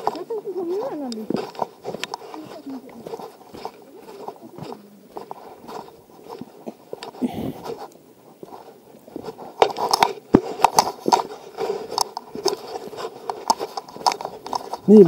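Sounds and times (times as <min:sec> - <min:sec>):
footsteps on stone stairs: 0:00.0 - 0:15.0
footsteps scuffing on dusty trail: 0:00.0 - 0:15.0.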